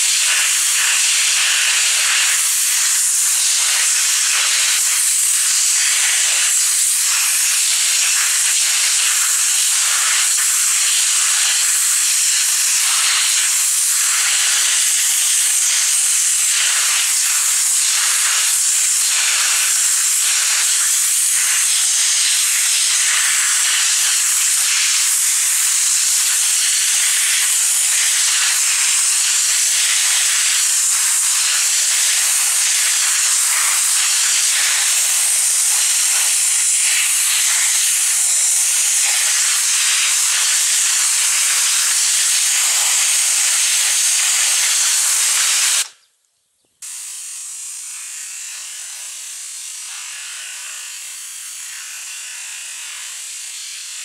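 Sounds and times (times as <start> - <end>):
pressure washer jet spraying: 0.0 - 45.9, 46.8 - 50.2.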